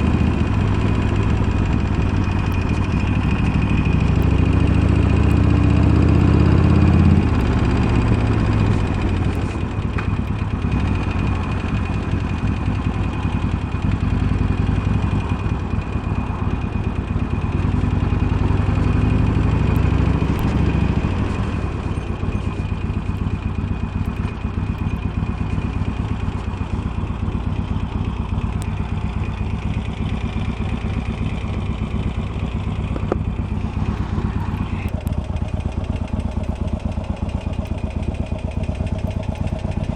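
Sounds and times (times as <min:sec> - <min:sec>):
engine ticking knock: 0:00.0 - 0:39.9
motorcycle engine idling: 0:00.0 - 0:39.9.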